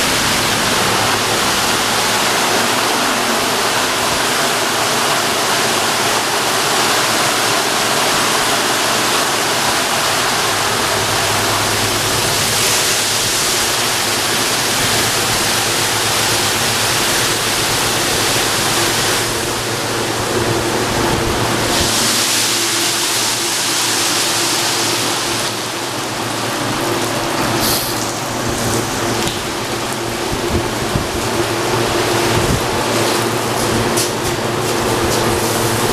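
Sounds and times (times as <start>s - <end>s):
steady machine hum: 0.0s - 35.9s
water spraying and hissing: 0.0s - 35.9s.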